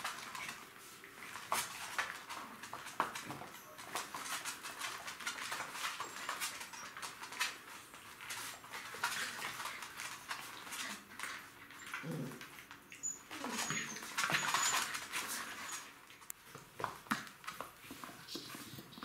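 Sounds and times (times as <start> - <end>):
puppies' claws clicking on hard floor: 0.0 - 19.0.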